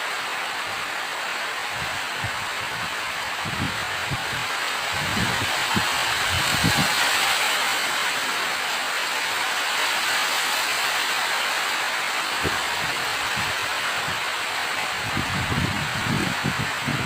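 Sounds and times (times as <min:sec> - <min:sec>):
steady rain hissing: 0:00.0 - 0:17.0.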